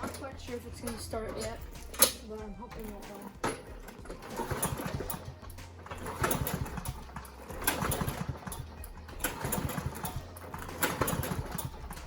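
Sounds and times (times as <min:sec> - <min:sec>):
lawnmower engine cranking: 0:00.0 - 0:12.0.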